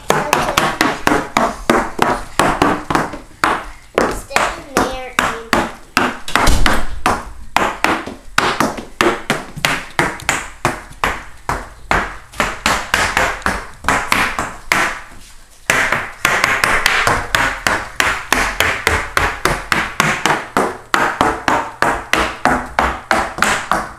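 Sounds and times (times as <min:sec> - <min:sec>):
hard shoes clacking on floor: 0:00.0 - 0:23.9.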